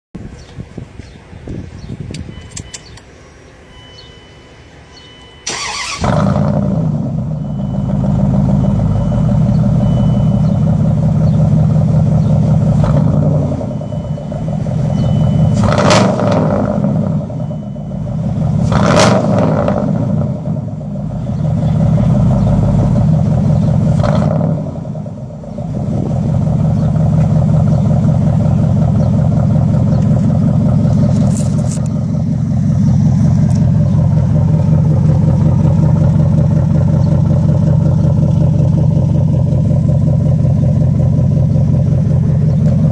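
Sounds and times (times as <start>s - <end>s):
engine throttle blips: 1.9s - 42.9s
vehicle engine starting: 4.9s - 42.9s
loud raw engine running: 5.6s - 42.9s.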